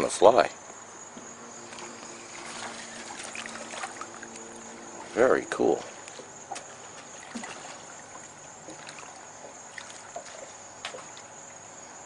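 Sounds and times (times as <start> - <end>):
faint high-pitched whine: 0.0 - 12.0
water lapping against hull: 1.6 - 12.0.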